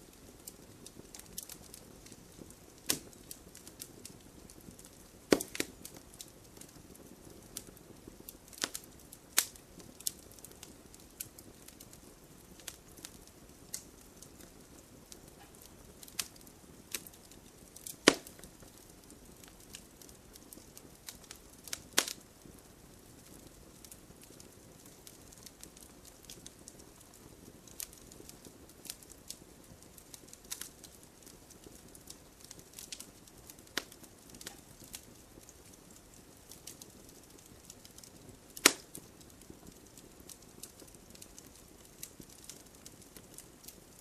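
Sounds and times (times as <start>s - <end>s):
campfire crackling and popping: 0.0s - 44.0s
faint low hiss: 0.0s - 44.0s.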